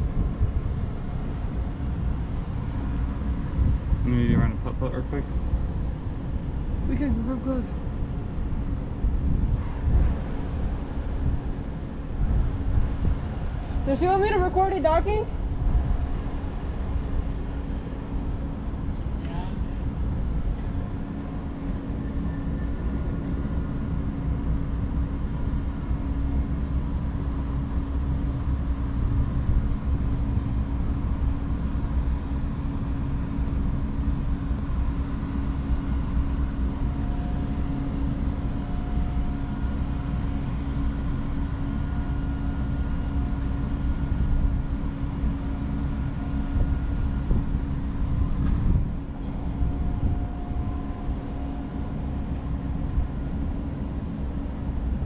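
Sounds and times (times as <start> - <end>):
machinery hum: 0.0 - 55.0
wind rumbling on microphone: 0.0 - 55.0.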